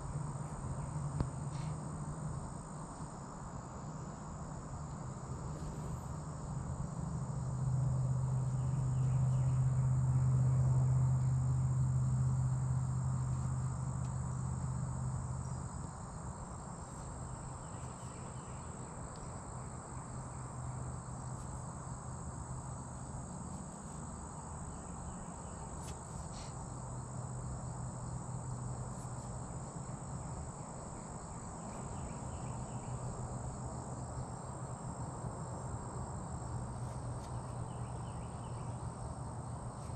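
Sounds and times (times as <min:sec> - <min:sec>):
insects chirring: 0:00.0 - 0:39.9
low droning hum: 0:00.0 - 0:39.9.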